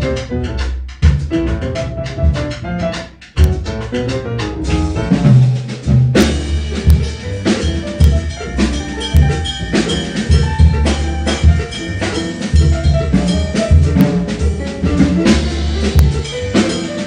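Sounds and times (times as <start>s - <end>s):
grand piano: 0.0s - 17.0s
loud drum kit strikes: 0.0s - 17.0s
upright double bass: 0.0s - 17.0s.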